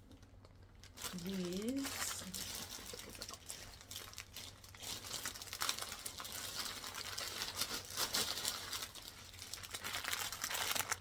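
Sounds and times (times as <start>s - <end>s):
plastic bags crinkling: 0.1s - 11.0s.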